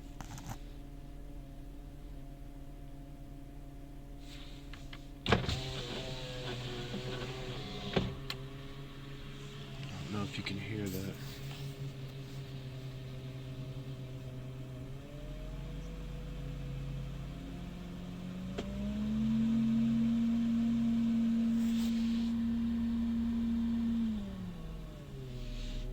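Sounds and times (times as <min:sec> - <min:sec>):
car engine whining: 0:00.0 - 0:25.9.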